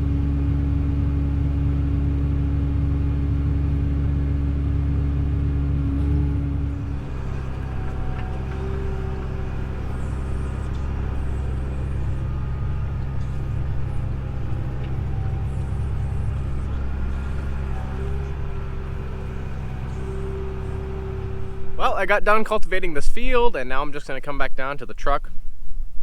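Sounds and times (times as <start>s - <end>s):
tractor engine running: 0.0s - 24.1s.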